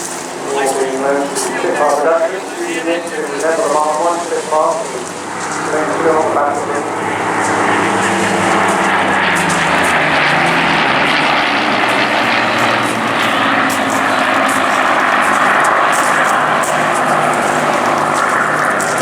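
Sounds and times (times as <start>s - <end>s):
piston aircraft engine droning: 0.0s - 19.0s.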